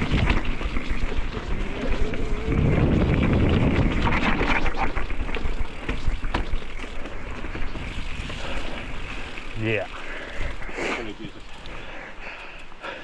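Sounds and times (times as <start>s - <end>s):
bike rattles and sharp knocks: 0.0s - 11.6s
rumbling tyre noise: 0.0s - 12.4s.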